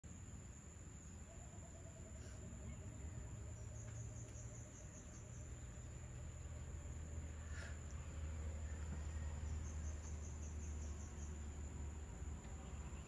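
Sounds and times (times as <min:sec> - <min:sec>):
insects trilling: 0:00.1 - 0:13.0
low background rumble: 0:00.1 - 0:13.0.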